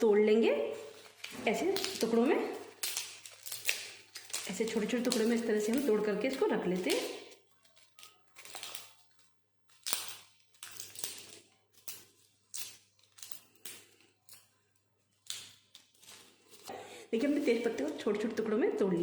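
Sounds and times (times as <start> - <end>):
dried leaves snapping and crackling: 0.7 - 14.6, 15.2 - 18.4.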